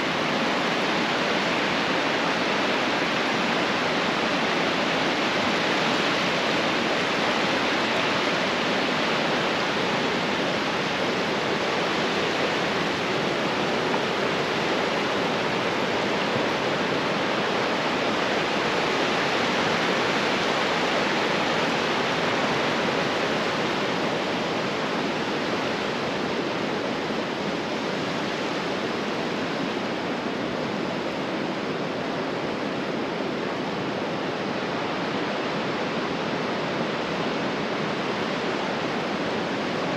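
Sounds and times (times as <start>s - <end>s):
ocean waves rushing on beach: 0.0s - 39.9s.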